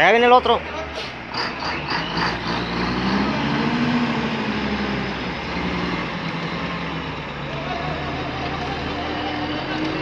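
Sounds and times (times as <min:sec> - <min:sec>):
diesel truck engine: 0:00.0 - 0:10.0.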